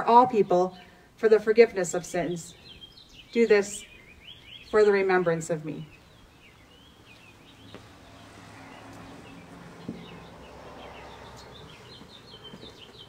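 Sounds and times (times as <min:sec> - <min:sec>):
small birds chirping: 0:02.0 - 0:13.0.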